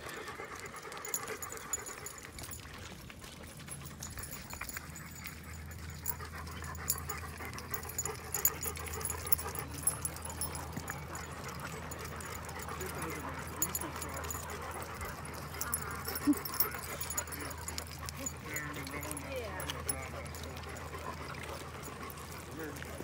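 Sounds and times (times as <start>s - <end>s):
dogs panting: 0.0s - 23.0s.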